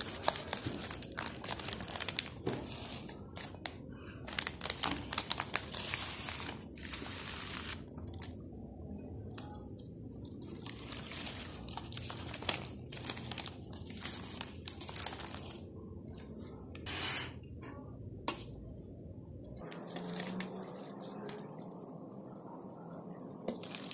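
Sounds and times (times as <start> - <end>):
rustling and crinkling packet: 0.0 - 8.5, 9.2 - 16.5, 19.6 - 23.9.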